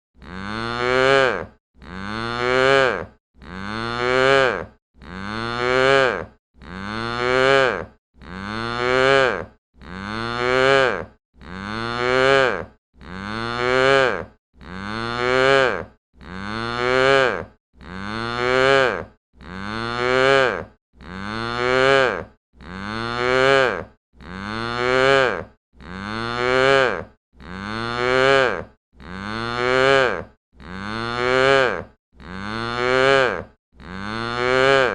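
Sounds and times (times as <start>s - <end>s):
cow mooing: 0.2s - 34.9s.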